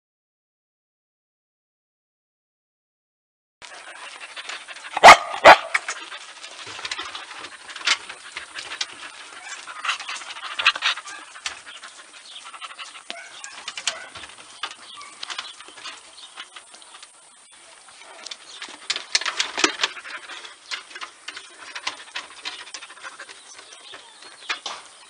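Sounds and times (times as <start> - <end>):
dogs panting: 3.6 - 25.0
small ticks and bumps: 3.6 - 25.0.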